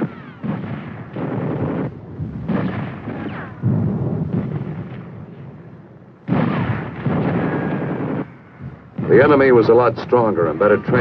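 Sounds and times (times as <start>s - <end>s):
explosions: 0.0s - 11.0s.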